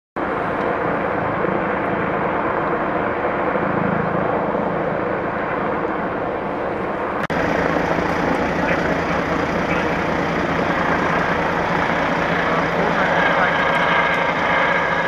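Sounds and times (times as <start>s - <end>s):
continuous rushing noise: 0.2s - 15.0s
engine drone: 0.2s - 15.0s.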